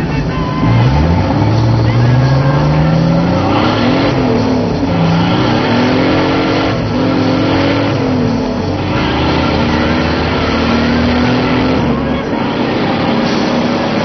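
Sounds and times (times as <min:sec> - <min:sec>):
car engine while driving: 0:00.0 - 0:14.0
road noise: 0:00.0 - 0:14.0.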